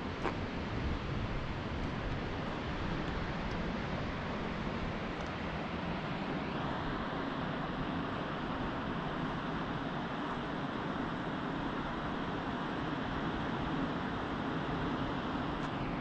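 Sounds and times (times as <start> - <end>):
distant sea: 0.0 - 16.0
wind: 0.0 - 16.0.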